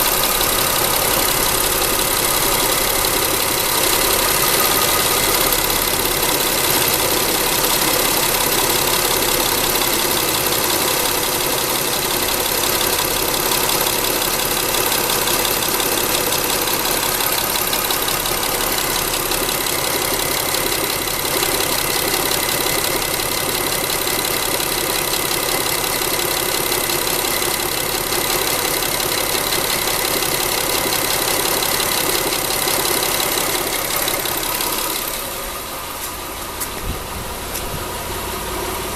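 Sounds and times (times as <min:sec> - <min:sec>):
car engine idling: 0:00.0 - 0:38.9
rapid engine clacking: 0:00.0 - 0:38.9.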